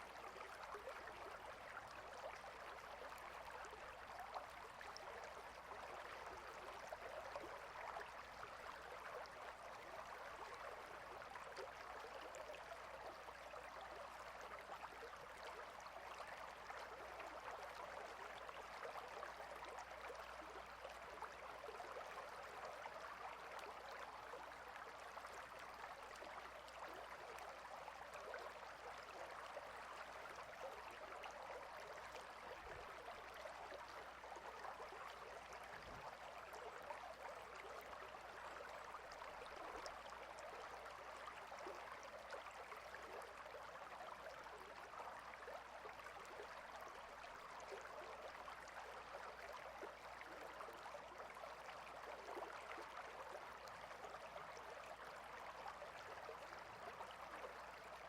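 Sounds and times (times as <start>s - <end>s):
faint stream water running: 0.0s - 58.0s.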